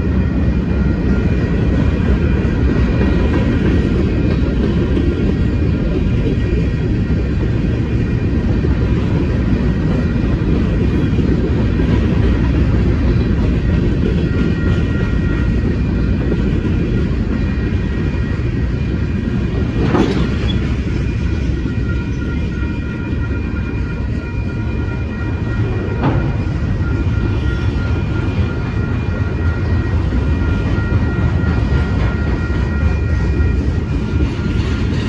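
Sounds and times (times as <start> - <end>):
freight car wheels rumbling on track: 0.0 - 35.0.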